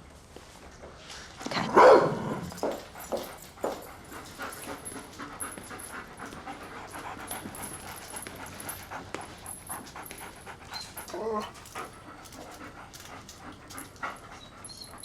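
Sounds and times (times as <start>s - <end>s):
dog panting: 2.5s - 15.0s.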